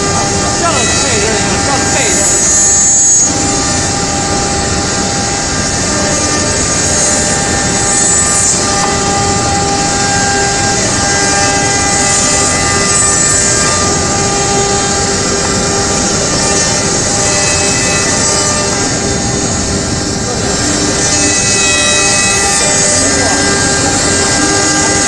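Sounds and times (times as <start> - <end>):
router spindle whining and cutting: 0.0 - 25.0.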